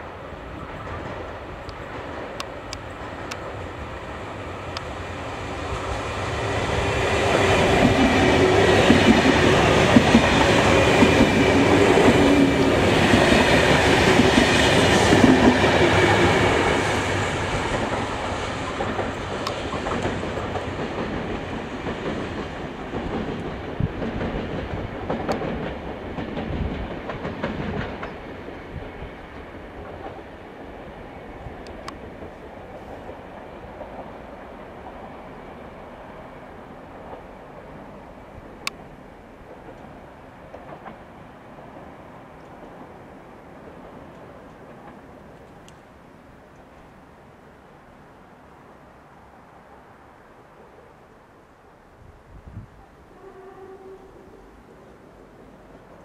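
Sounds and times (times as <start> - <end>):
train whining tone: 0.0 - 41.6, 52.8 - 56.0
train wheels rumbling on rails: 0.0 - 46.9.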